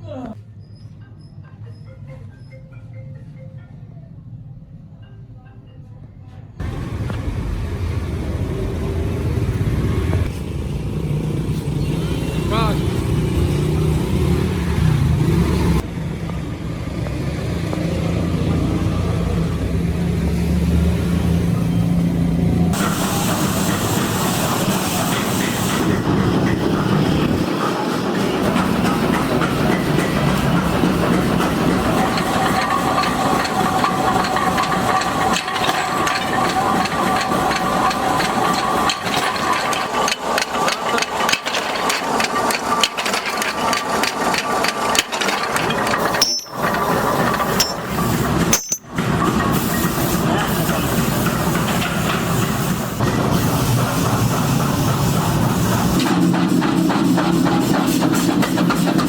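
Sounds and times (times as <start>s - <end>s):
machinery humming: 6.6s - 59.0s.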